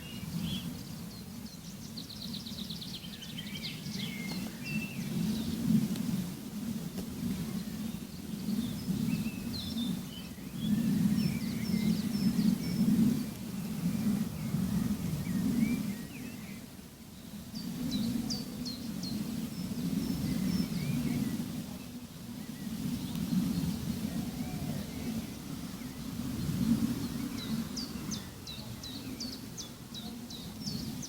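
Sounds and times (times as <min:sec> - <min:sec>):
small birds chirping: 0:00.0 - 0:05.9, 0:07.6 - 0:31.0.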